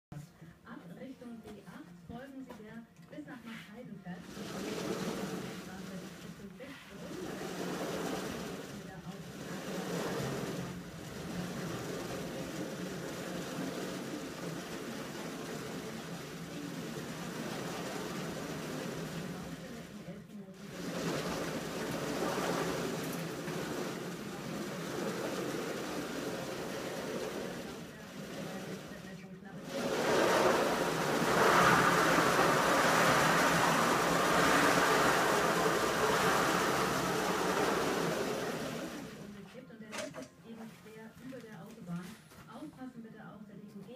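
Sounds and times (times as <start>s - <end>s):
wooden table rolling: 4.1s - 40.3s.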